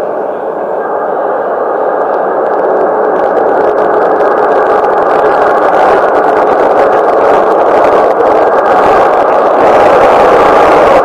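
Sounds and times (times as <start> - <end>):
subway train rumbling roar: 0.0 - 11.0.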